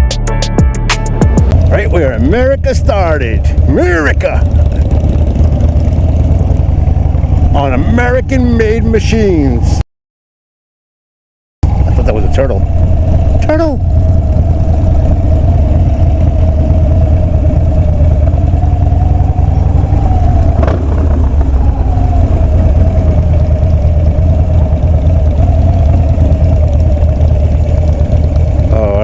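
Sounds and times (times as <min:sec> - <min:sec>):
motorcycle engine running: 0:00.6 - 0:09.8, 0:11.6 - 0:29.0.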